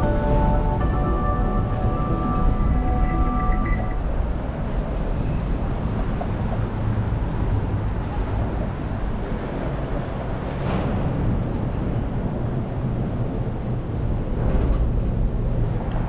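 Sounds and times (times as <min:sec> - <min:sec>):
low rumble: 0:00.0 - 0:16.0
street traffic: 0:00.0 - 0:16.0.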